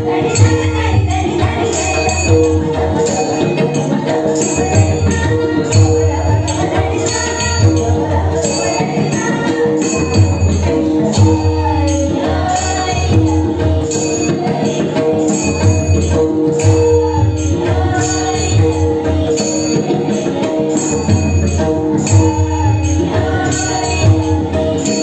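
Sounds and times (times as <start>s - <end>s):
hand cymbals jingling: 0.0s - 25.0s
rhythmic drum beat: 0.0s - 25.0s.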